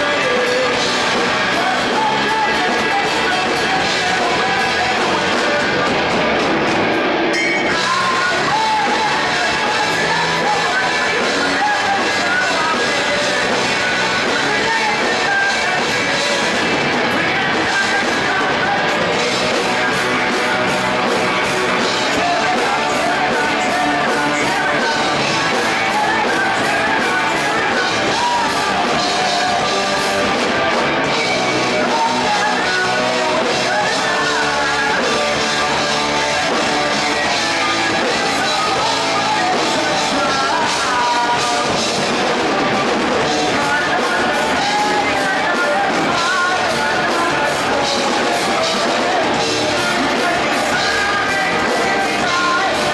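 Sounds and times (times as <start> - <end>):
person singing: 0.0 - 6.6, 7.2 - 52.9
drums: 0.0 - 52.9
rock band guitars: 0.0 - 52.9.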